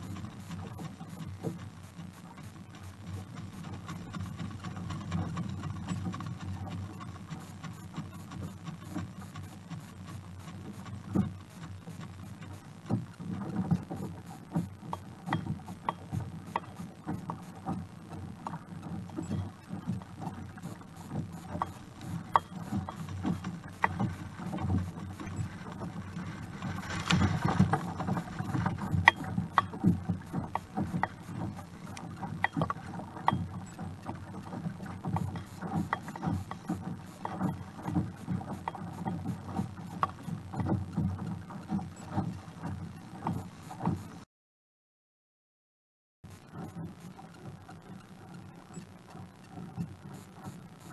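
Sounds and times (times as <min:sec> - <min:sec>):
small clicks and knocks: 0:00.0 - 0:44.2
water slapping along kayak hull: 0:00.0 - 0:44.3, 0:46.5 - 0:50.9.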